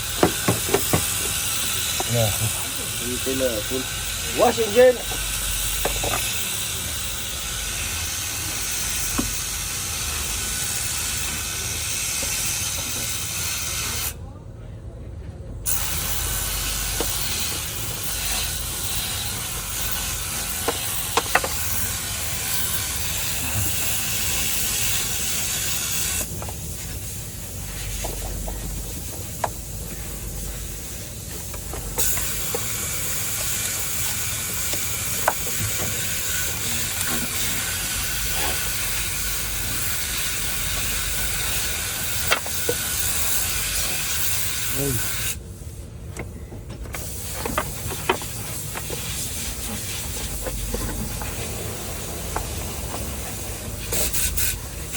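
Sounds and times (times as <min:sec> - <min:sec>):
cleaning jet hissing: 0:00.0 - 0:14.1, 0:15.7 - 0:45.4, 0:47.0 - 0:54.9.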